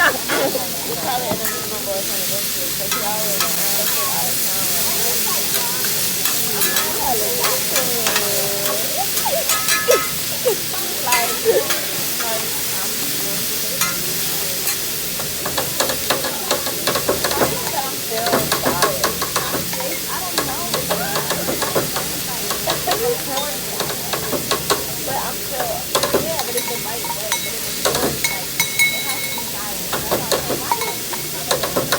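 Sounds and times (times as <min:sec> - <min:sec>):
food sizzling on griddle: 0:00.0 - 0:31.9
utensils clattering: 0:00.0 - 0:31.9.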